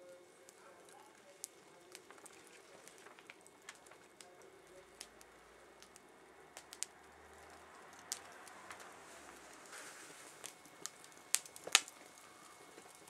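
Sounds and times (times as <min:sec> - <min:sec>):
burning wood popping: 0:00.0 - 0:13.0
campfire crackling: 0:00.0 - 0:13.0.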